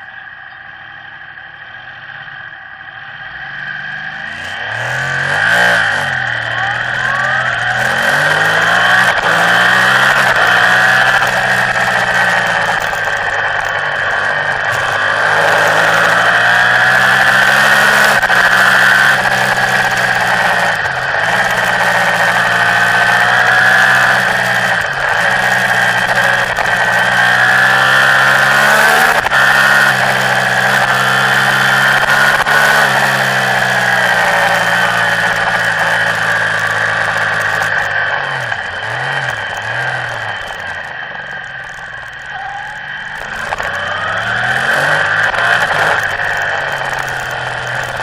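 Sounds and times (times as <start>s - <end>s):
motorcycle engine pulling hard: 3.6s - 48.0s.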